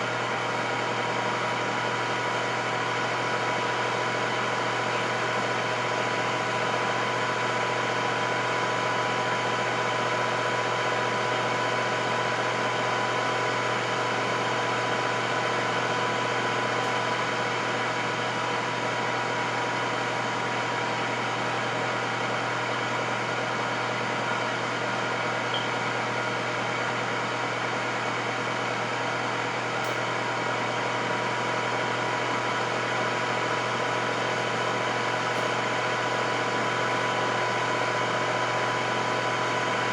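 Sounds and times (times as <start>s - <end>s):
air fryer running: 0.0s - 39.9s.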